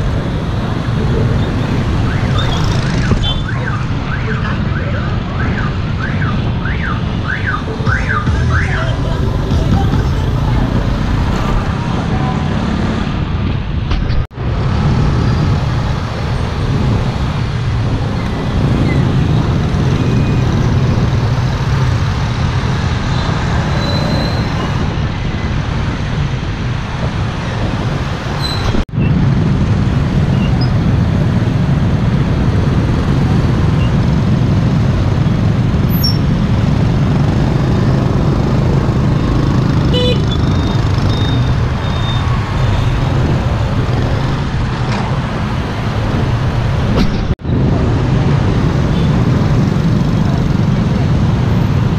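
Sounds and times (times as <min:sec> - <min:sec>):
low rumble of traffic: 0:00.0 - 0:51.9.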